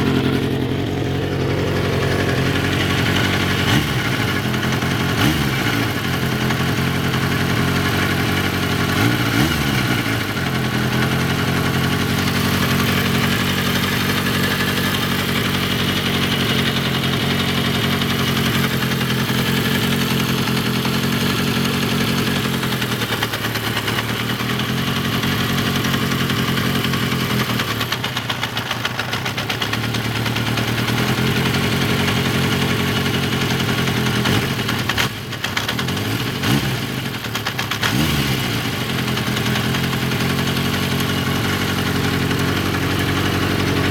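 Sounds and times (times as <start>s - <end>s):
car engine idling with rattle: 0.0s - 43.9s.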